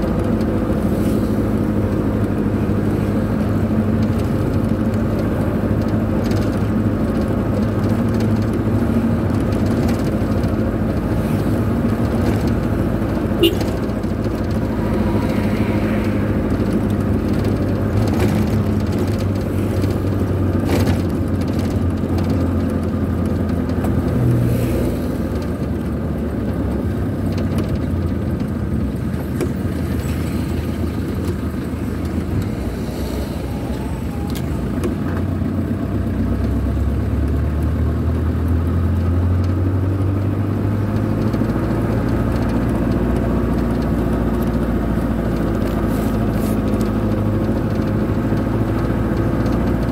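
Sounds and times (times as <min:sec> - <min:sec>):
tyre and road noise: 0:00.0 - 0:49.9
vehicle engine running: 0:00.0 - 0:49.9.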